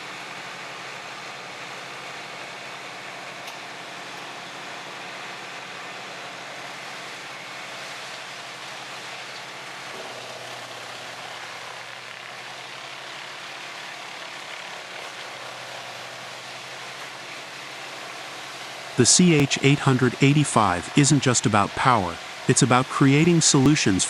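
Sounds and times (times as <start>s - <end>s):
wood chipper engine drone: 0.0s - 24.0s.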